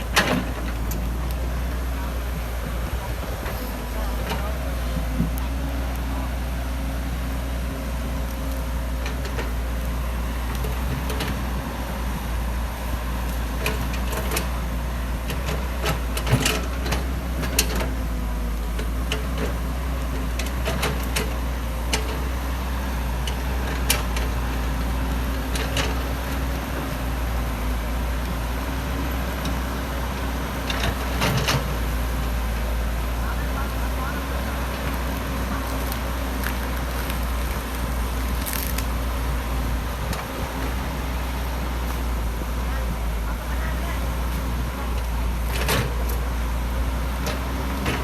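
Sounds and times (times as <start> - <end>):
excavator engine humming: 0.0 - 48.0.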